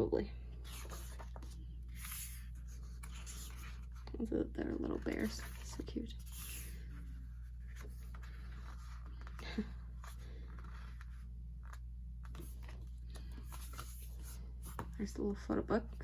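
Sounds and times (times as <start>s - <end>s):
steady low hum: 0.0s - 16.0s
paper and card rustling: 0.6s - 15.5s.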